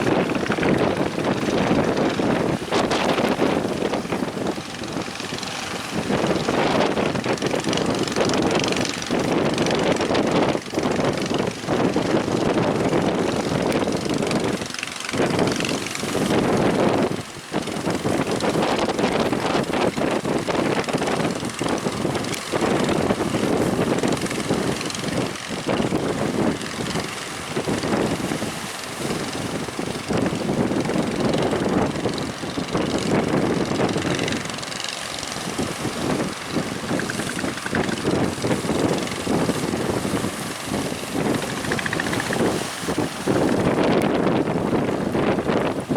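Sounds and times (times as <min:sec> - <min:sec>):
boat engine running: 0:00.0 - 0:45.9
wind buffeting microphone: 0:00.0 - 0:45.9.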